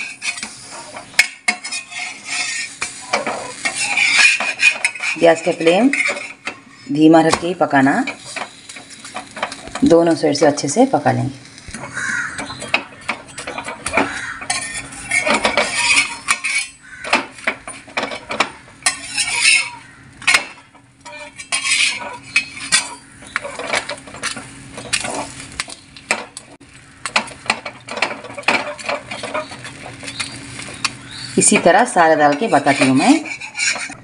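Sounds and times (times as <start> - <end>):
light sizzling: 0.0 - 34.0
metal spatula scraping griddle: 0.0 - 34.0.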